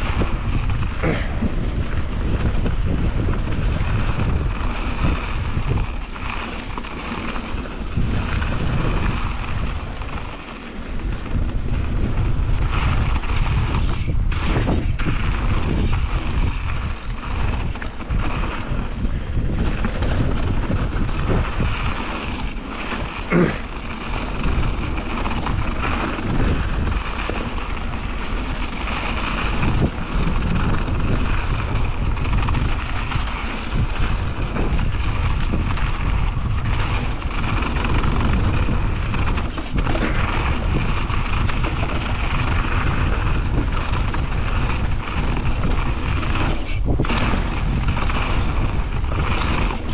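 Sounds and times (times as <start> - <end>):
bike tyres rolling on dirt: 0.0 - 49.9
wind rushing over microphone: 0.0 - 49.9.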